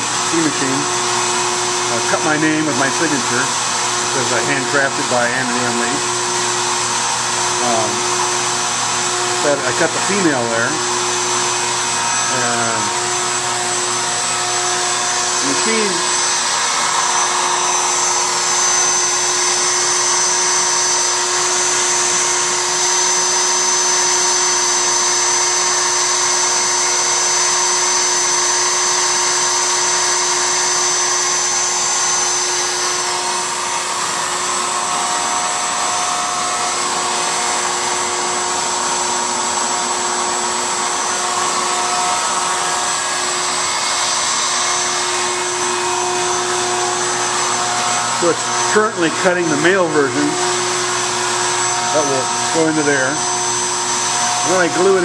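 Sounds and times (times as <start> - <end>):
router cutting wood whine: 0.0 - 55.0.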